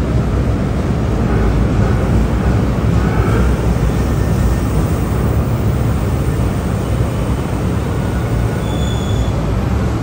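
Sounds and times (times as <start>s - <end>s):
high squeal of train: 0.0s - 10.0s
train wheels rumbling on rails: 0.0s - 10.0s.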